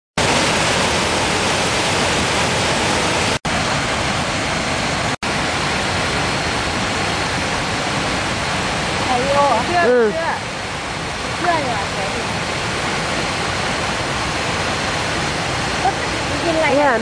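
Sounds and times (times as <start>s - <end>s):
waterfall roaring: 0.2s - 17.0s.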